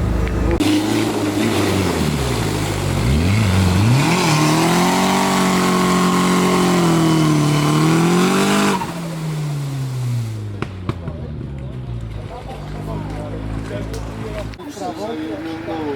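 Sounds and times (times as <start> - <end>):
truck engine revving: 0.0 - 14.6.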